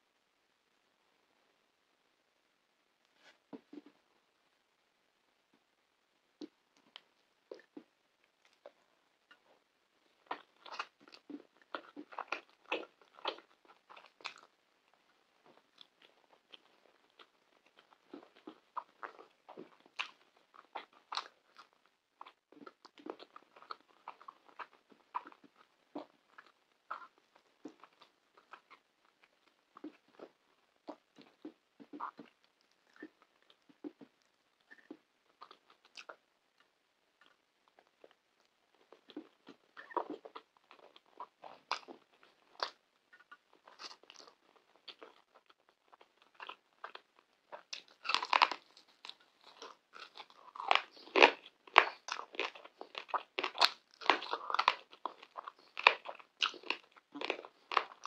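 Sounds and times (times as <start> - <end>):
wet chewing clicks: 10.2 - 58.0.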